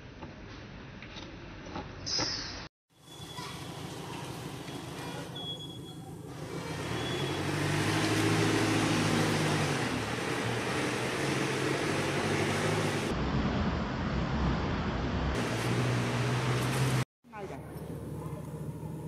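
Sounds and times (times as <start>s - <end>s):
traffic noise: 3.0s - 19.0s.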